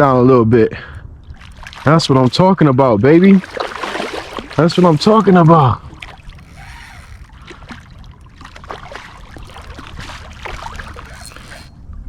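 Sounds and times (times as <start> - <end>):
river water trickling and splashing: 1.2 - 12.0.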